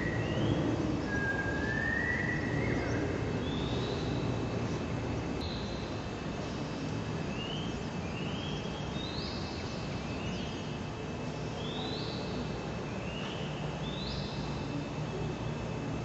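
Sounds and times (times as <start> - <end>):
birds whistling calls: 0.0 - 10.8, 11.5 - 15.3.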